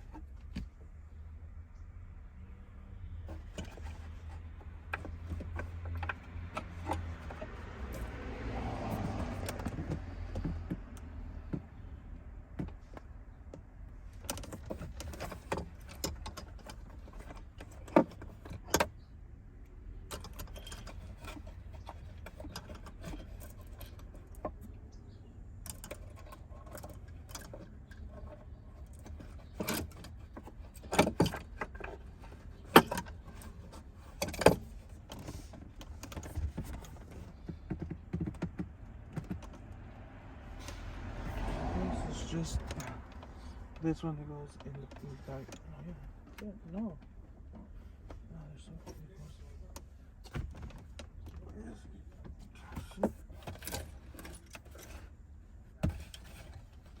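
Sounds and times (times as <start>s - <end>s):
car parts clicking and rattling: 0.0s - 57.0s.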